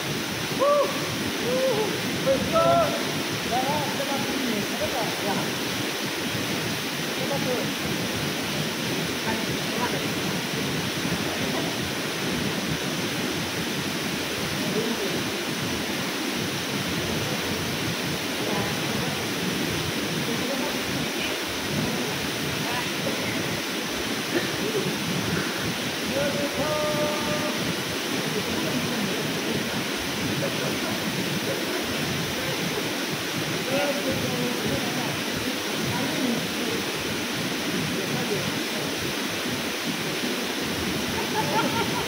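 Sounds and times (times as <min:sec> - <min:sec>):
waterfall pouring into pool: 0:00.0 - 0:42.0.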